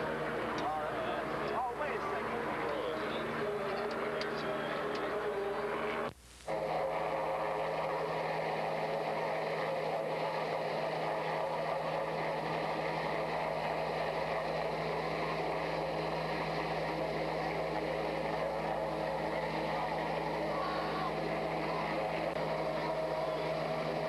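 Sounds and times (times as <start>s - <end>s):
constant low hum: 0.0s - 24.0s
helicopter engine and rotor drone: 0.0s - 24.0s.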